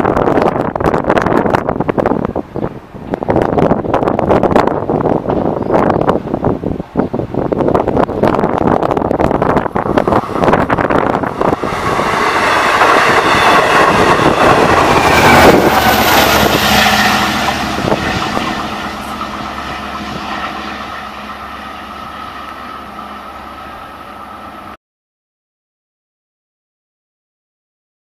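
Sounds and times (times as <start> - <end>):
train passing at speed: 0.0 - 24.8
steady engine hum: 0.8 - 24.8.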